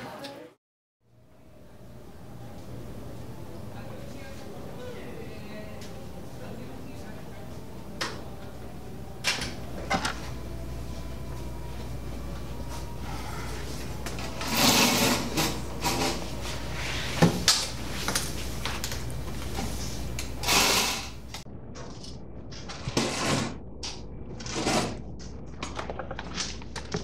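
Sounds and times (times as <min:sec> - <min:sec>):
background hum: 0:01.1 - 0:27.0.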